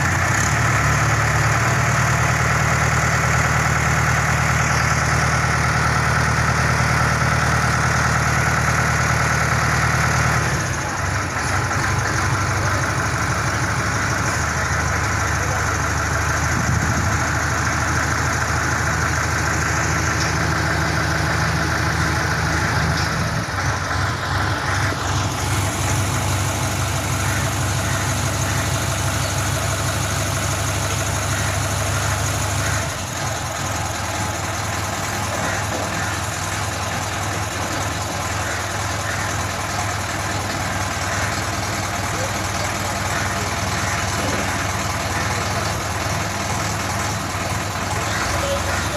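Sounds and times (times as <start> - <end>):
diesel generator droning: 0.0 - 48.9.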